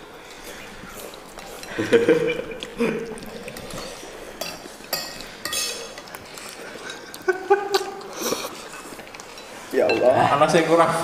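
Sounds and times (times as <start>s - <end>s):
metal cutlery clinking on ceramic bowls: 1.0s - 10.8s.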